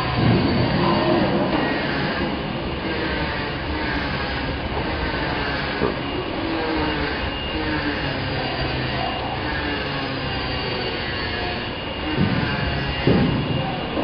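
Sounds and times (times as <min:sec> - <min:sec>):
workshop machinery running: 0:00.0 - 0:14.0.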